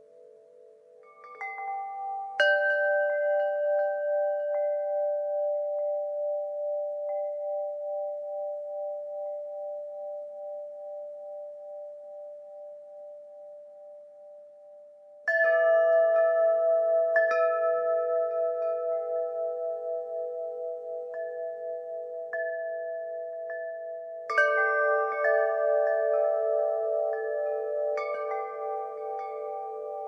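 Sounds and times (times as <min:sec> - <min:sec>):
wind chimes ringing: 0:00.0 - 0:13.6, 0:14.7 - 0:30.0.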